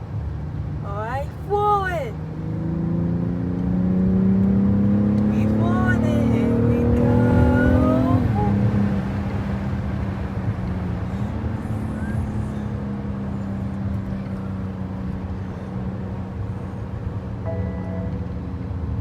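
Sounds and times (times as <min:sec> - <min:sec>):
road rumble: 0:00.0 - 0:19.0
car engine pulling away: 0:02.3 - 0:05.6, 0:06.4 - 0:19.0.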